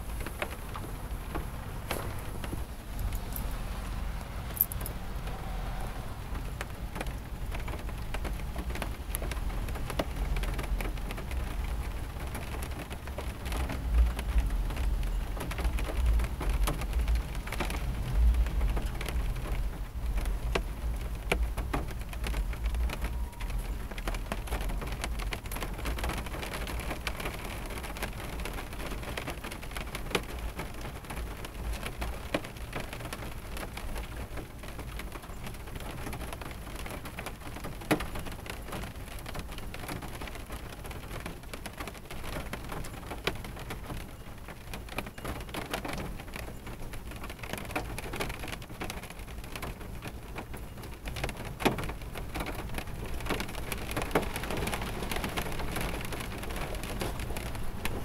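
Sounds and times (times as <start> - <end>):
rain on car windshield: 0.0 - 58.0.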